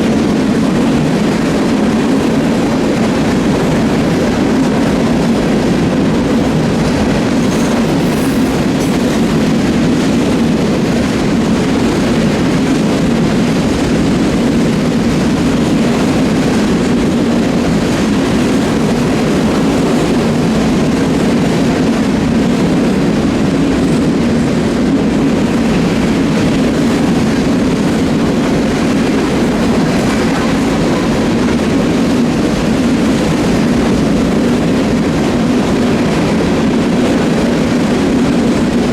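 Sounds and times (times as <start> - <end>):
train cars rolling on rails: 0.0 - 38.9.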